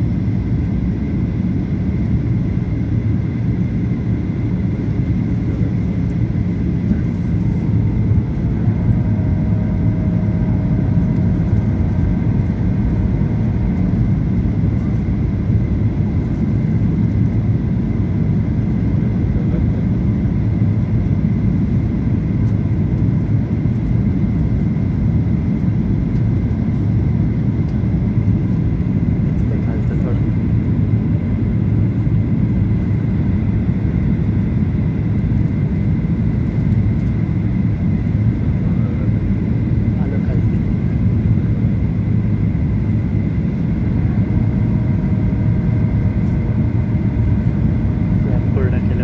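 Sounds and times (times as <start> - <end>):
airplane cabin engine rush: 0.0 - 49.0.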